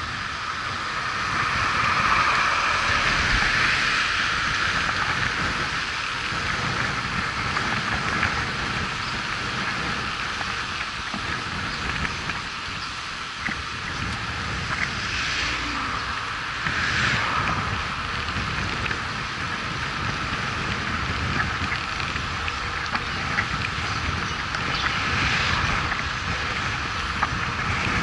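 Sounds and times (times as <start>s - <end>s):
wind and road noise rushing: 0.0s - 28.0s.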